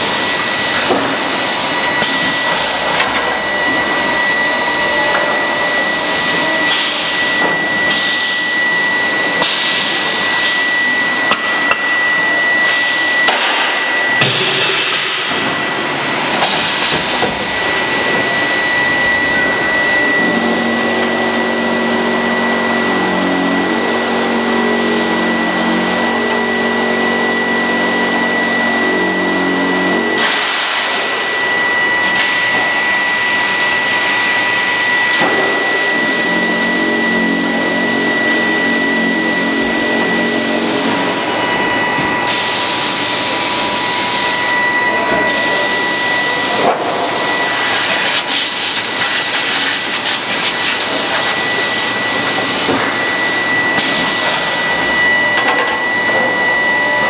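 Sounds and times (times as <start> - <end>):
low machine hum: 0.0 - 30.2, 30.8 - 57.0
high machine whine: 0.0 - 57.0.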